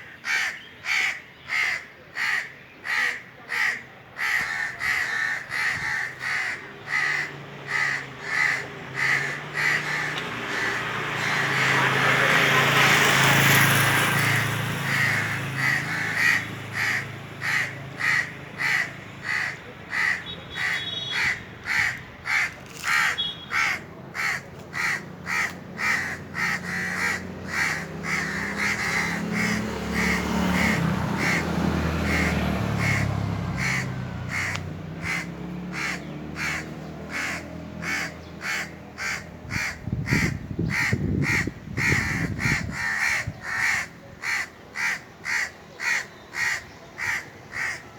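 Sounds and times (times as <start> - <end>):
crows cawing: 0.0 - 12.5, 13.4 - 47.9.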